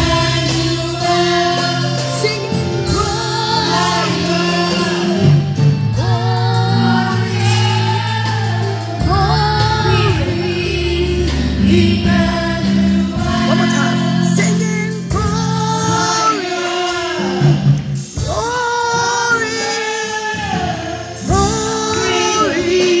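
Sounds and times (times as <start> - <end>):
children's choir singing: 0.0 - 23.0
instrumental accompaniment: 0.0 - 23.0.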